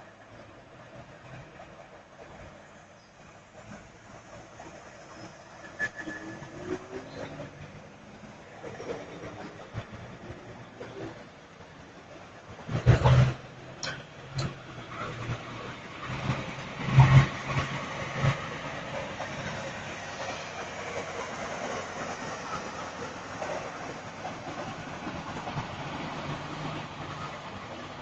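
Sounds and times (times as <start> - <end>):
truck traffic rumble: 0.0 - 28.0.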